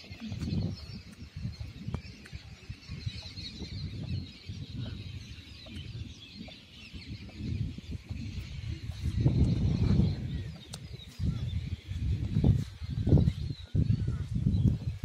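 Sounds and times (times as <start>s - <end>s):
small birds chirping: 0.0s - 15.0s
wind gusting on microphone: 0.0s - 15.0s.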